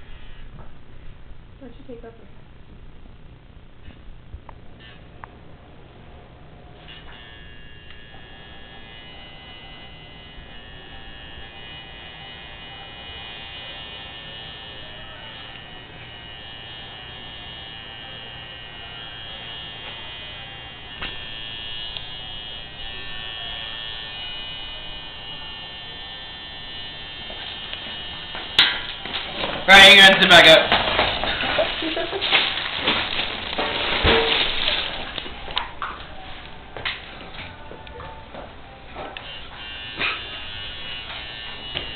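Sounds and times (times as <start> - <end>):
electric buzz with high whine: 0.0 - 41.9.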